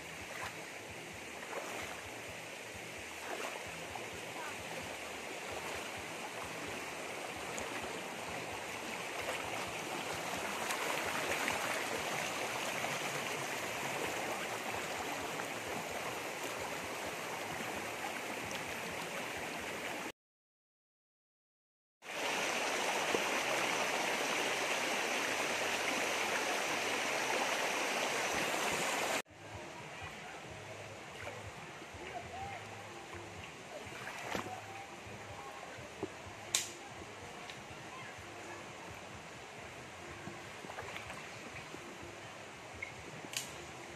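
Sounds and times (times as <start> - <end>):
stream running over rocks: 0.0 - 20.1, 22.0 - 43.9.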